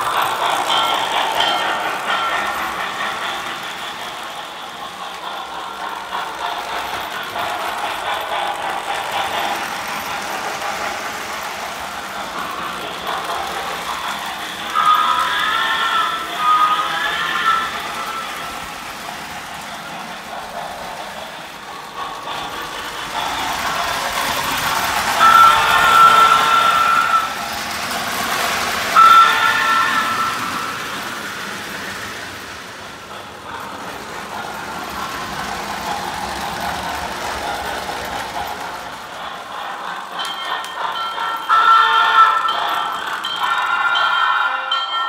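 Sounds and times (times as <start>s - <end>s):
model train wheels rattling: 0.0s - 44.4s
electronic steam engine sounds: 0.0s - 44.6s.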